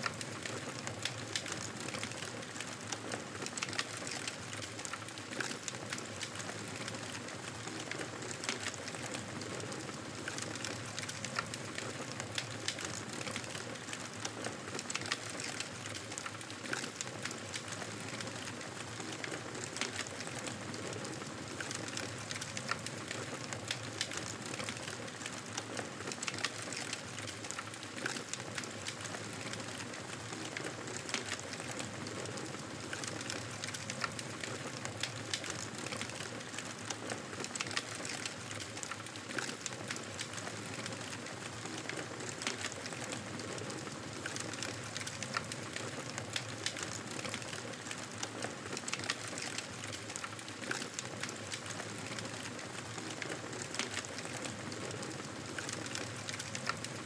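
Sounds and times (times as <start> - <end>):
campfire crackling: 11.0 - 57.0.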